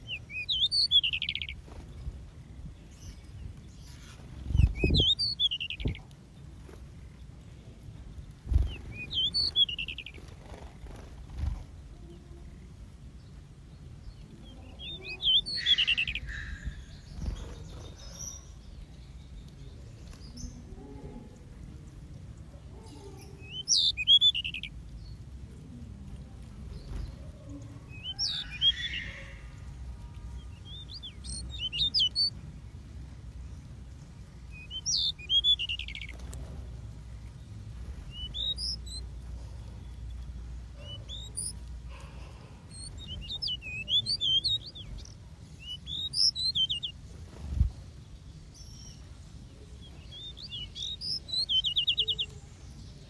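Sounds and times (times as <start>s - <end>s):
low background rumble: 0.0s - 53.0s
small birds chirping: 0.0s - 53.0s.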